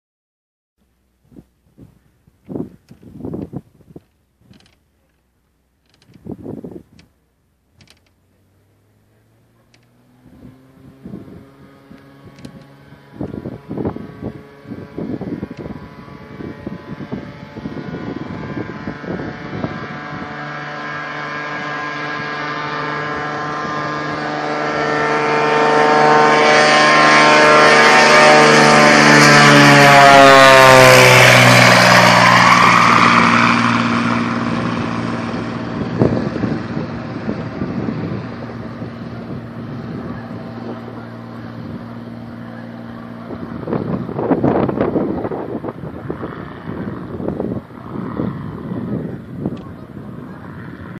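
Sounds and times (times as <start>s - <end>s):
propeller plane engine: 0.8s - 50.9s.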